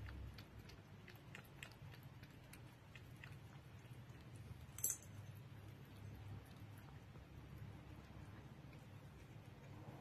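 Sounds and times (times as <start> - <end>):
cat lapping from bowl: 0.0 - 10.0.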